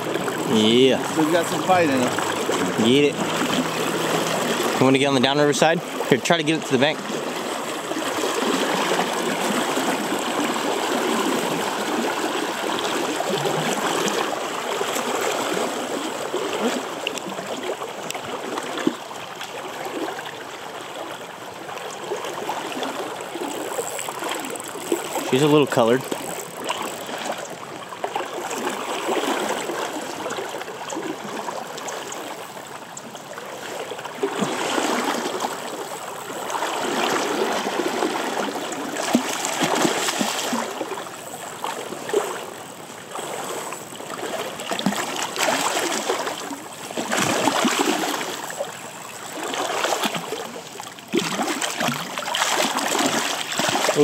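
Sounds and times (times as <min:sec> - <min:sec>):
fish splashing: 0:00.0 - 0:05.1, 0:05.7 - 0:54.0
river water rushing: 0:00.0 - 0:54.0.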